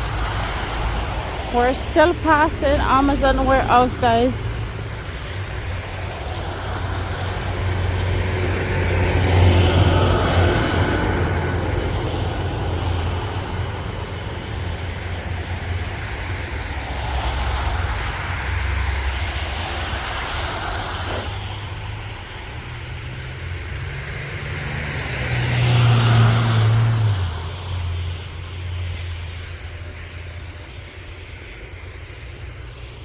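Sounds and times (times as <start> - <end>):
road traffic passing: 0.0 - 33.0.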